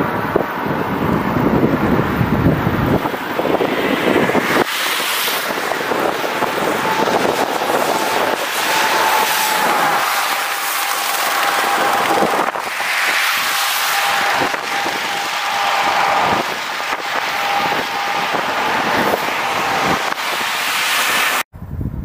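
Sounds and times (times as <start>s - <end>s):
lorry passing with whine: 0.0s - 21.4s
tyres hissing on wet asphalt: 0.0s - 21.4s
wind rumbling on microphone: 0.0s - 22.0s.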